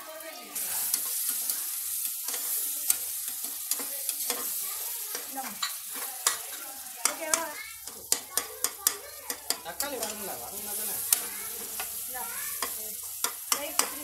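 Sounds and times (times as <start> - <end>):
vegetables sizzling in a pot: 0.0 - 14.0.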